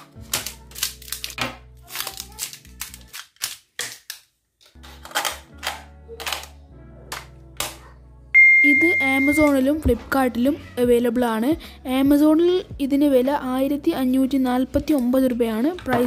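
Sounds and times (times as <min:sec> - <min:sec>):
background music: 0:00.0 - 0:03.6, 0:04.7 - 0:16.0.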